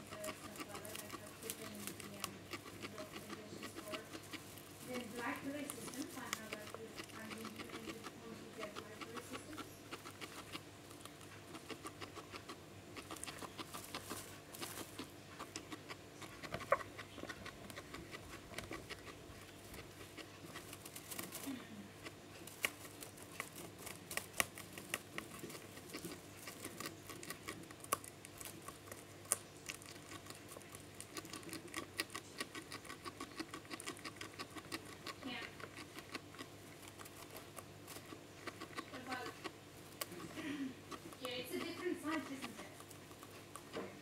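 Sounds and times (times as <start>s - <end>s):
guinea pig chewing hay: 0.0s - 44.0s.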